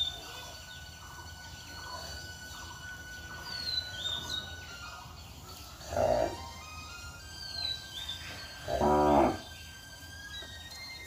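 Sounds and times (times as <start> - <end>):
birds whistling calls: 0.0 - 11.0.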